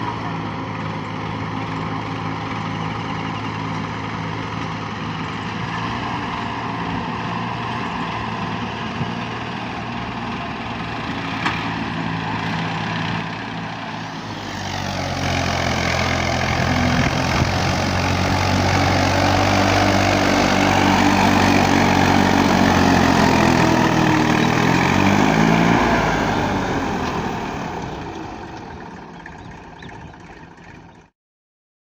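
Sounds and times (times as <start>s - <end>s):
tractor engine running under load: 0.0s - 31.1s.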